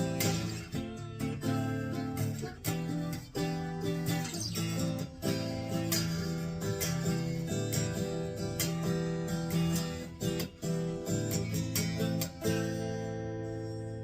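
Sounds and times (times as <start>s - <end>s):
clean electric guitar strumming: 0.0s - 14.0s.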